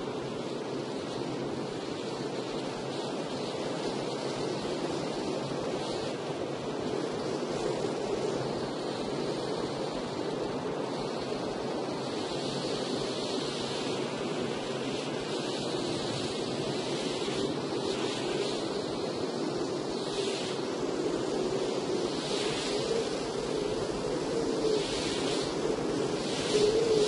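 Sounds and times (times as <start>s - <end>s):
wind and rain rushing: 0.0s - 27.0s.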